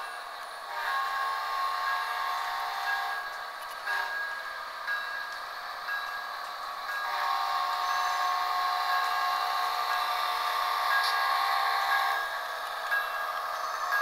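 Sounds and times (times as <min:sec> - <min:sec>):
diesel locomotive sounds from small speaker: 0:00.0 - 0:14.0.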